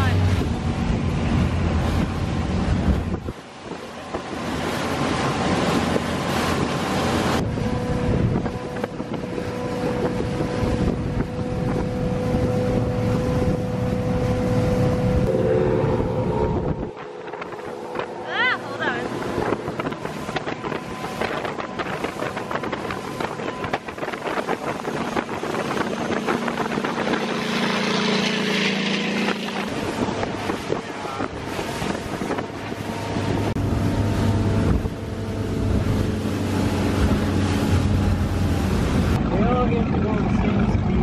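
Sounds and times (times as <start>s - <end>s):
motorboat engine drone: 0.0s - 41.0s
wind rushing on microphone: 0.0s - 41.0s.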